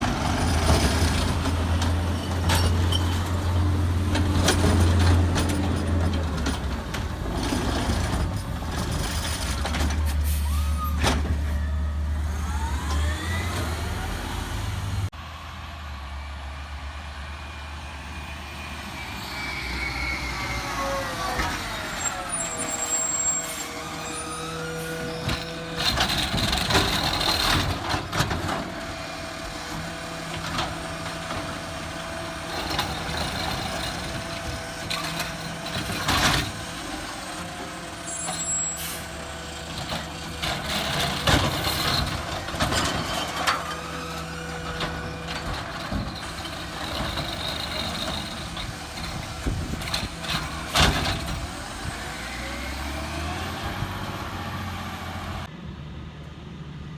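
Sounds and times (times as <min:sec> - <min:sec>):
garbage truck engine and hydraulics: 0:00.0 - 0:56.9.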